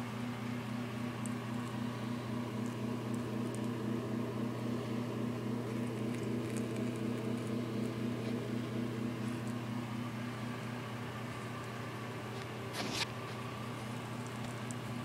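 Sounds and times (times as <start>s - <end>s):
small motor pulsing hum: 0.0s - 15.0s.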